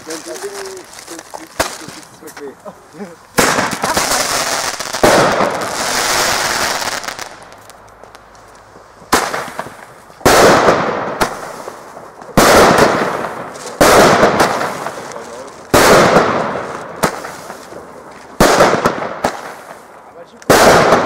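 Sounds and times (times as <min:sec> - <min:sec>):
fireworks bangs echoing: 0:00.0 - 0:02.4, 0:03.3 - 0:21.0.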